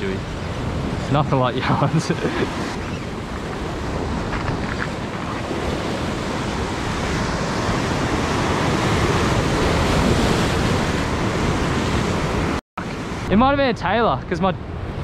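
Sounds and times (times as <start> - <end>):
wind buffeting microphone: 0.0 - 13.7
ocean surf breaking on rocks: 0.0 - 15.0.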